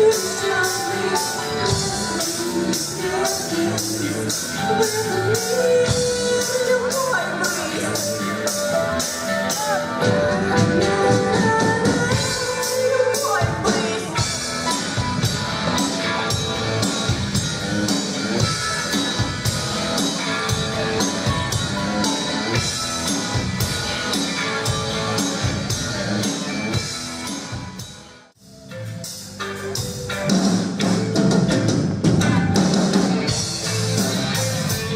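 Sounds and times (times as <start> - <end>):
drum kit beat: 0.0 - 34.9
live rock band playing: 0.0 - 34.9.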